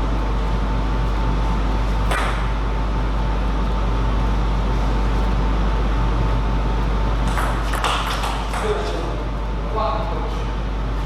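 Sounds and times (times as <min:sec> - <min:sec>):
low hum: 0:00.0 - 0:11.0
thin steady whine: 0:00.0 - 0:11.0.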